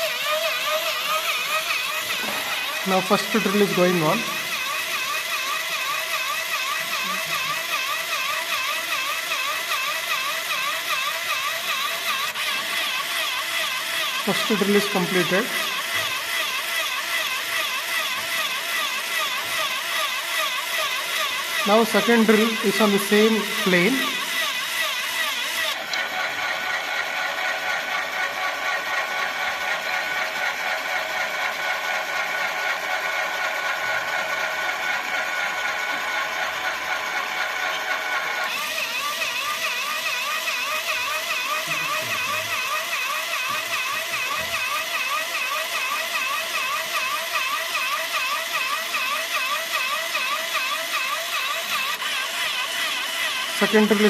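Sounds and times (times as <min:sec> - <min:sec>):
electric drill motor whining: 0:00.0 - 0:54.0.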